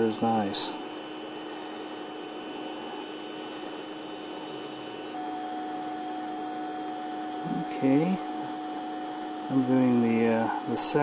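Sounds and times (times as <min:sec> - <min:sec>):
welding arc hissing and humming: 0:00.0 - 0:11.0.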